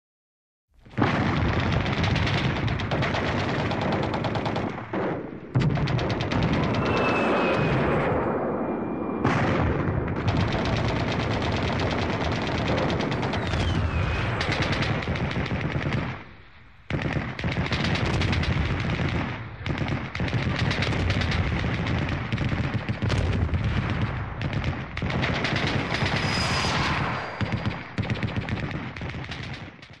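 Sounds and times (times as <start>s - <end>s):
rapid machine-gun and rifle fire: 0.9s - 7.7s, 9.2s - 30.0s.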